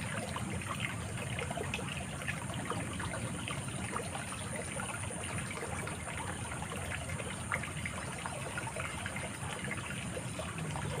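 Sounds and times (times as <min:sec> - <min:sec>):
stream trickling and babbling: 0:00.0 - 0:11.0.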